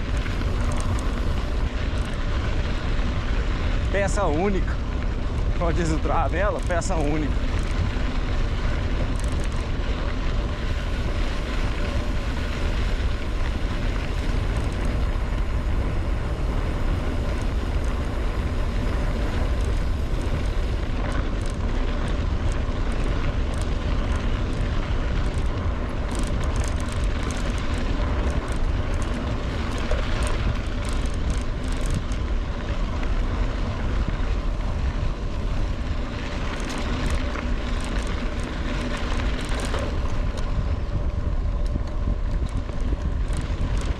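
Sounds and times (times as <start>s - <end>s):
bike clicks and rattles: 0.0s - 43.9s
wind buffeting microphone: 0.0s - 43.9s.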